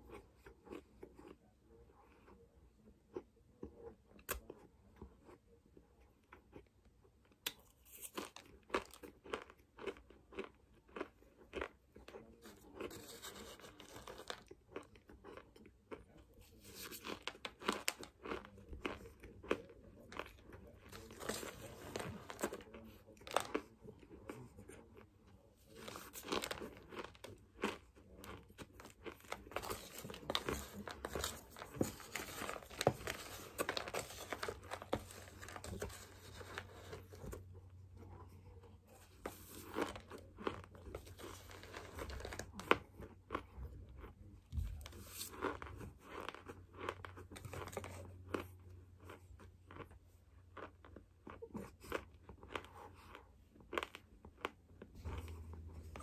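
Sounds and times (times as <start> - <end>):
person chewing crunchy powder: 0.0 - 56.0.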